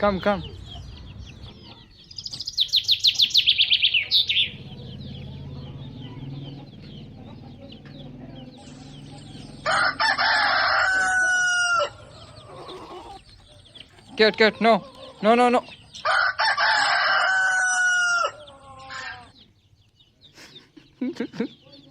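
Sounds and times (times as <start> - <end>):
bird calls: 0.0 - 21.9.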